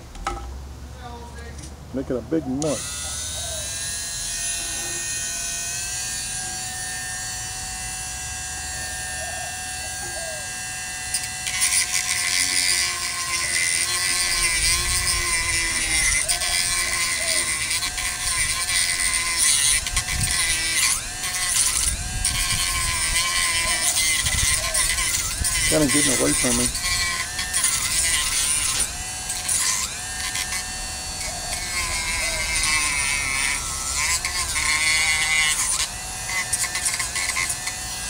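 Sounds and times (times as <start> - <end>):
rotary tool whining and grinding: 1.6 - 38.0.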